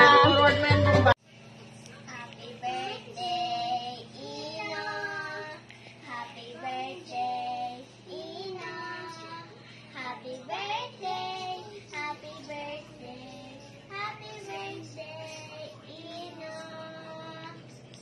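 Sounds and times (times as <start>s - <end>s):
child singing: 2.1s - 17.7s.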